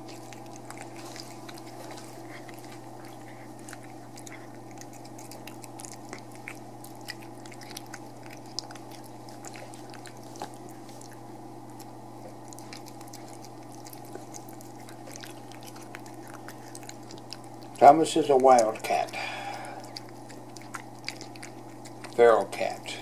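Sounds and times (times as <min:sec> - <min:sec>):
cat chewing wet food: 0:00.0 - 0:23.0
low background hum: 0:00.0 - 0:23.0.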